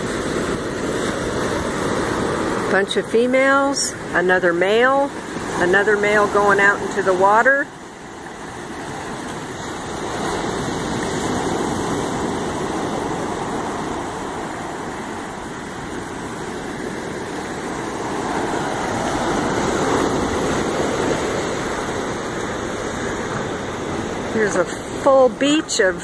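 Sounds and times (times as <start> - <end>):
ocean surf washing up a beach: 0.0 - 26.0.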